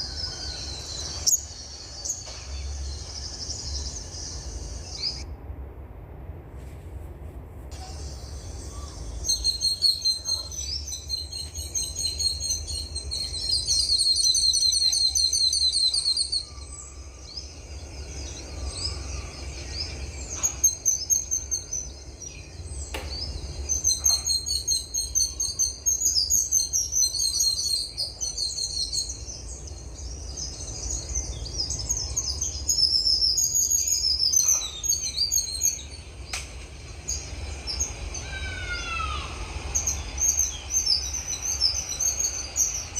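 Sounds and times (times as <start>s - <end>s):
songbirds chirping chorus: 0.0s - 5.3s, 7.7s - 42.9s
rapid bird trill: 7.8s - 36.3s, 36.9s - 42.9s.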